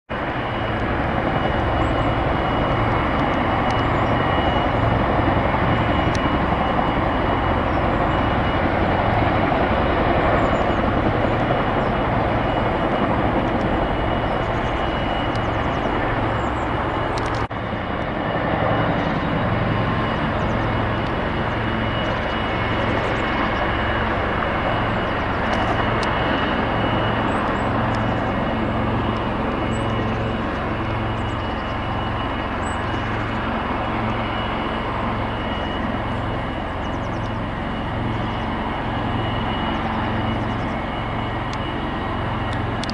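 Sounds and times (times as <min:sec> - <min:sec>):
helicopter rotors beating heavily: 0:00.1 - 0:42.9
turbine high whine: 0:00.1 - 0:42.9.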